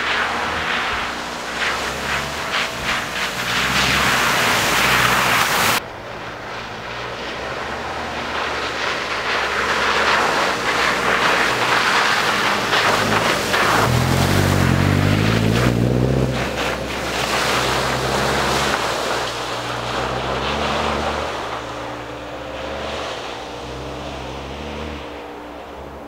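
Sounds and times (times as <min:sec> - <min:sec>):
tyres splashing through mud: 0:00.0 - 0:26.0
vehicle engine running: 0:00.0 - 0:26.0.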